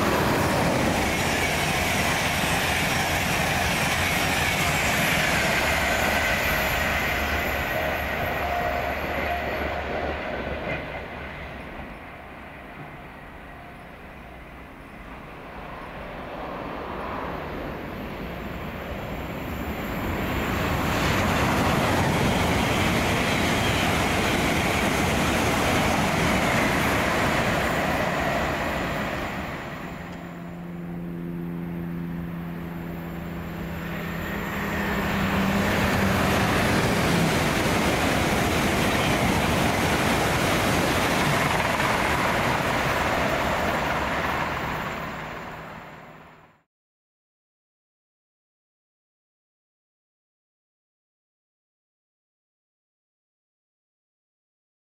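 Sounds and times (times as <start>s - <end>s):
train wheels on rails: 0.0s - 31.2s, 32.2s - 46.5s.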